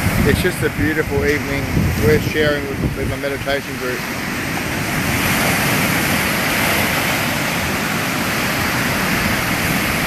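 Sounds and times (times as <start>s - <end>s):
surf breaking on shore: 0.0s - 10.0s.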